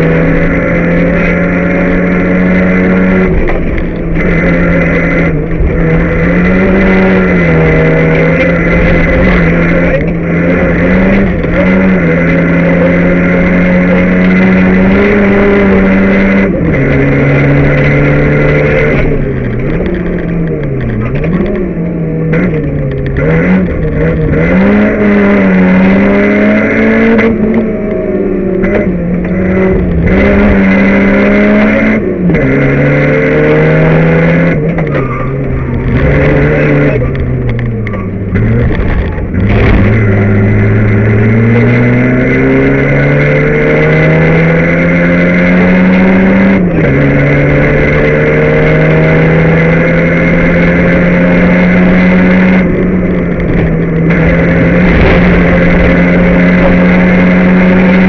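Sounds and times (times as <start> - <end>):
rally car engine revving: 0.0 - 58.0
road and tyre noise: 0.0 - 58.0.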